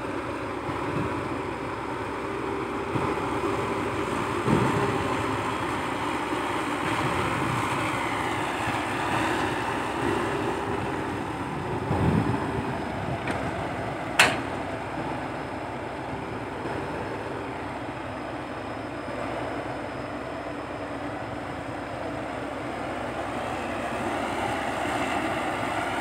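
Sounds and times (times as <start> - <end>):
excavator running: 0.0 - 26.0.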